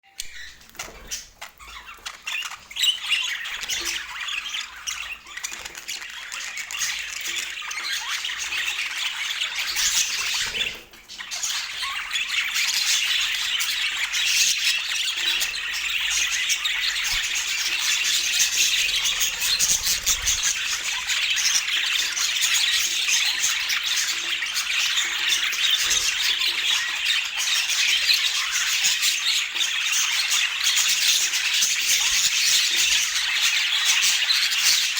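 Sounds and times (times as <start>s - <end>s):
budgerigars chattering: 0.2s - 34.9s.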